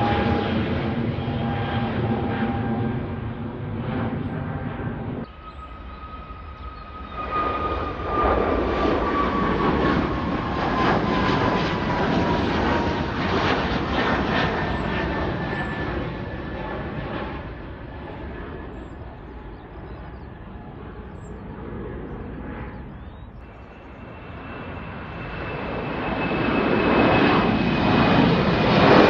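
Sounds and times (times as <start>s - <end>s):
jet engine roar with whine: 0.0s - 29.0s.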